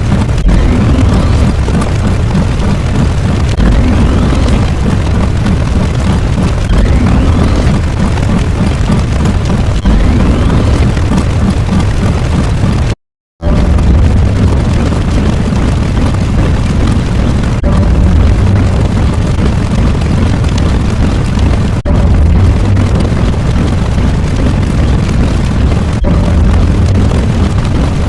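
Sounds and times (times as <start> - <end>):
explosion rumble: 0.0 - 28.0.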